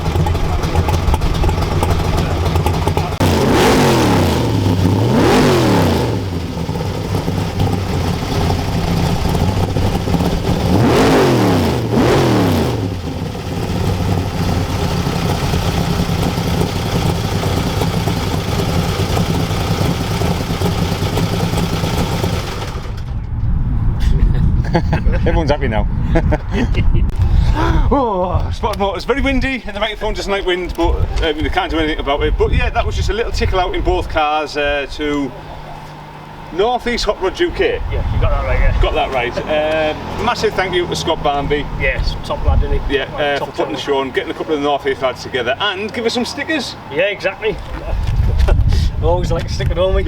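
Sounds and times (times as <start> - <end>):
car engines idling and revving: 0.0 - 27.6, 28.5 - 50.0.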